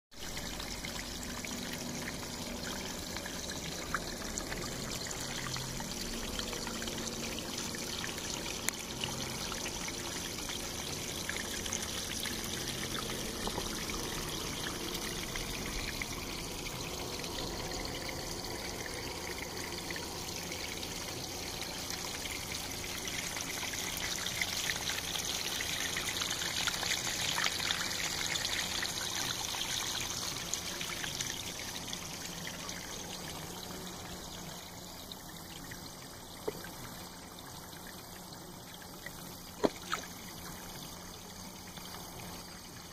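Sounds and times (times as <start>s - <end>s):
waterfall splashing into pond: 0.2s - 33.2s, 36.3s - 41.0s.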